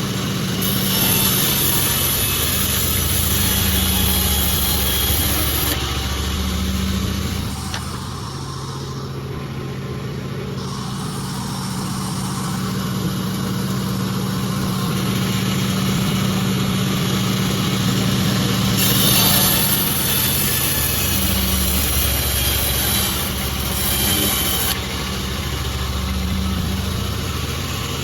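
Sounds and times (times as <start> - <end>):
saw blade cutting wood: 0.0 - 9.9, 10.5 - 28.0
sawmill machinery humming: 0.0 - 28.0.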